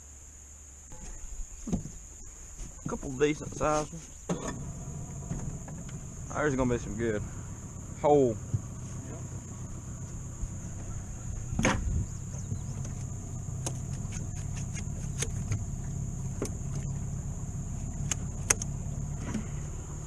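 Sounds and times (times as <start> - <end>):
insect drone: 0.0 - 20.0
low hum: 0.0 - 20.0.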